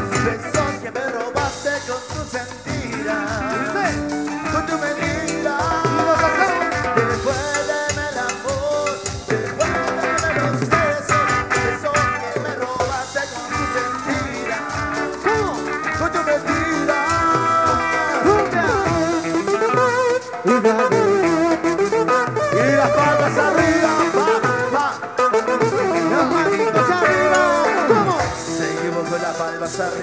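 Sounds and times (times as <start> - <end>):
drum kit dance beat: 0.0 - 30.0
melodic lead line with pitch bends: 0.0 - 30.0.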